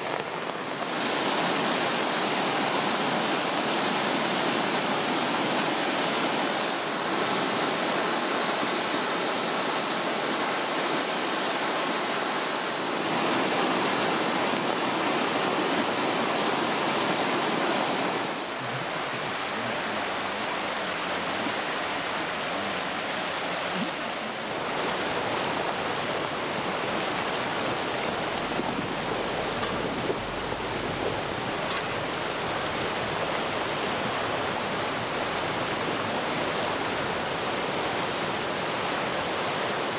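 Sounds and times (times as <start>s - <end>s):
floodwater running over gravel: 0.0s - 38.7s
river rushing through rapids: 0.0s - 39.9s.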